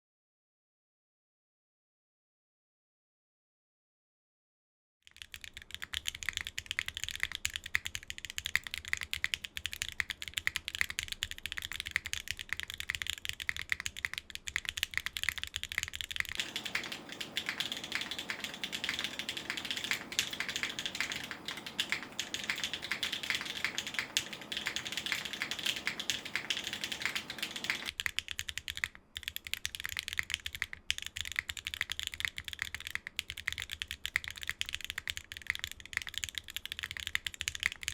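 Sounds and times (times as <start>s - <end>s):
fast mechanical keyboard typing: 5.1s - 37.9s.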